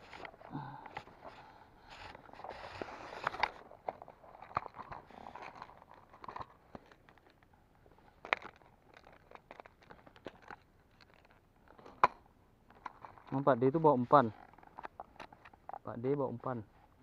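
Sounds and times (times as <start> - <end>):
plastic box clicks and rustles: 0.0 - 16.0.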